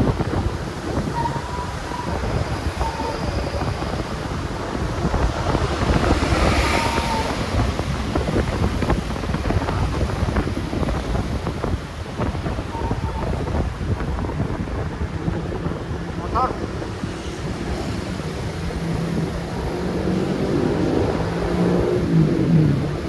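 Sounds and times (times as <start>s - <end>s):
motorbike engine rumble: 0.0s - 23.0s
road noise from traffic: 0.0s - 23.0s
wind buffeting microphone: 0.0s - 23.0s.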